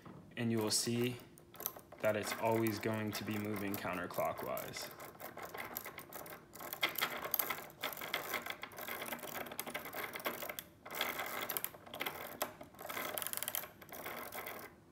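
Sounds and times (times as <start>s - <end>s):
ratchet pawls clicking: 0.6s - 14.7s.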